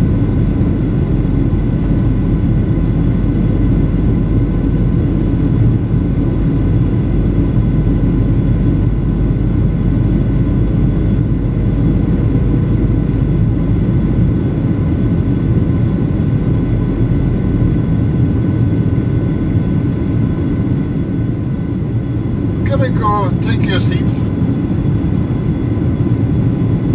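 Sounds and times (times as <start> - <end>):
airplane cabin rumble: 0.0 - 26.9
steady whine tones: 0.0 - 26.9.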